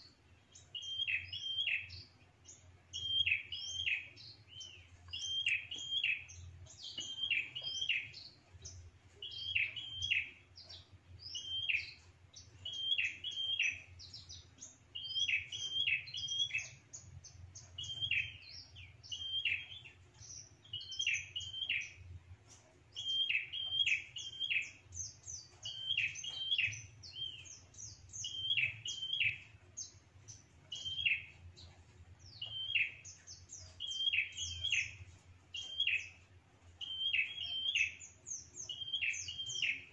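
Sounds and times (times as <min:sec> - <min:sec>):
high bird twittering: 0:00.0 - 0:22.0, 0:22.9 - 0:31.4, 0:32.3 - 0:36.2, 0:36.8 - 0:39.9.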